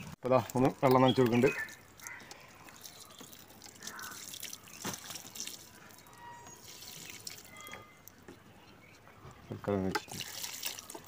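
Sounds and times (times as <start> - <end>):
water pouring onto soil: 0.0 - 8.2, 9.9 - 11.0
water splashing and dripping: 0.0 - 8.3, 9.9 - 11.0.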